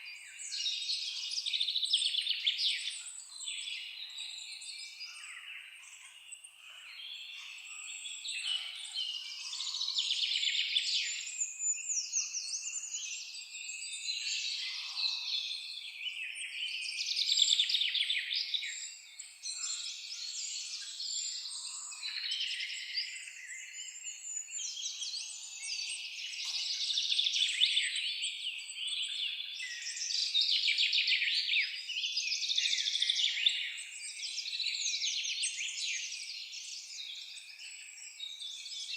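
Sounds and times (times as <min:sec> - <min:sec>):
songbirds chorus chirping and trilling: 0:00.0 - 0:38.9.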